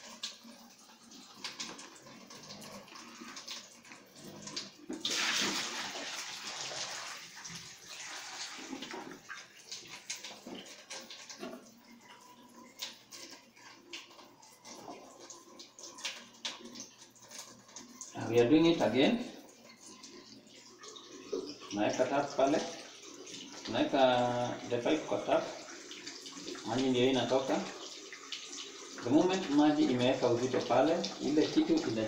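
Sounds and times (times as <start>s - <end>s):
water pouring and splashing: 0.0s - 32.0s.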